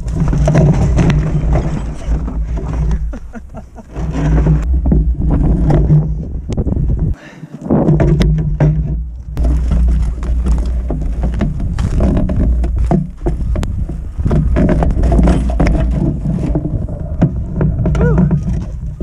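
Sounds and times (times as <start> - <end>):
carrier rumbling over rough ground: 0.0 - 19.0.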